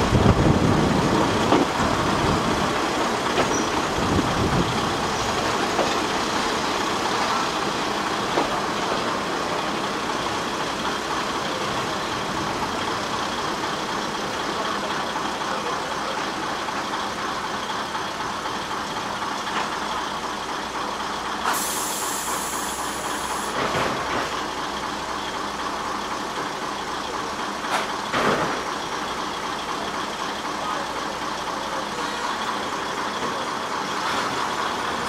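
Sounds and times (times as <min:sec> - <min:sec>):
diesel railcar engine: 0:00.0 - 0:35.0
train wheels on rails: 0:00.0 - 0:35.0.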